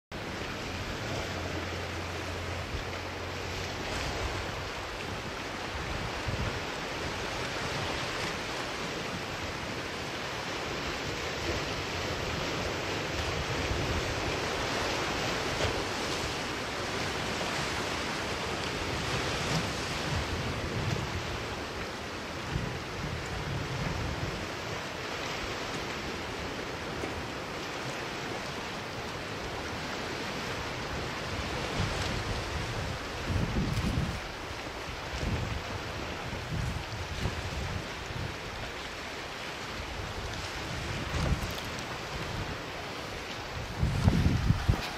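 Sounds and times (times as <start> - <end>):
sea waves on rocky shore: 0.1 - 44.9
wind rumbling on microphone: 0.1 - 44.9.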